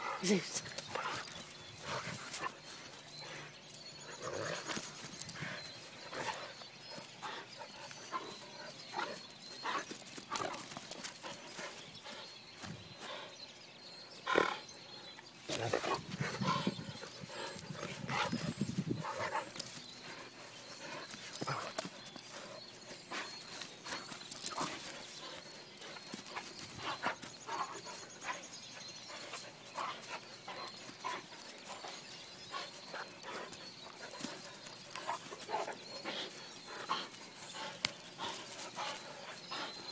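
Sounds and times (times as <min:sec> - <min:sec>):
scuffling and tugging: 0:00.0 - 0:13.0, 0:15.4 - 0:39.9.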